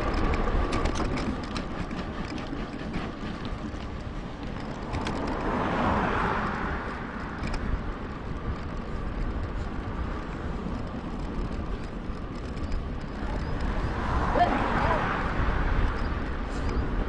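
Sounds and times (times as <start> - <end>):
bicycle tyres rolling on pavement: 0.0 - 17.0
wind rushing over microphone: 0.0 - 17.0.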